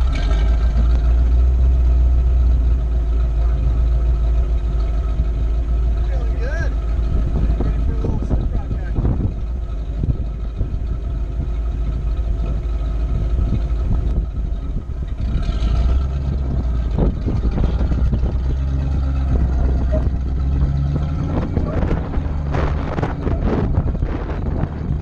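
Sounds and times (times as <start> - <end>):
engine rumbling at low speed: 0.0 - 25.0.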